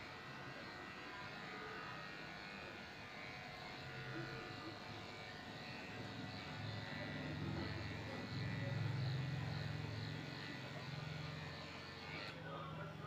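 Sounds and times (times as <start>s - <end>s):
electric clippers humming: 0.0s - 12.4s.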